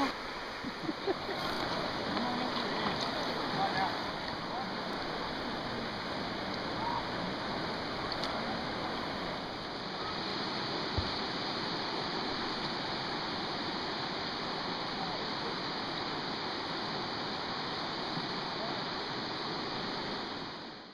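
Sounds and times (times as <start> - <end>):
river rushing over rocks: 0.0 - 20.9.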